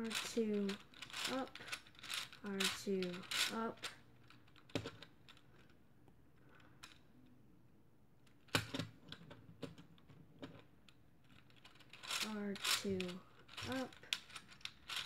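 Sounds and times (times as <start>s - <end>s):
plastic puzzle pieces clicking: 0.0s - 5.8s, 8.2s - 15.0s.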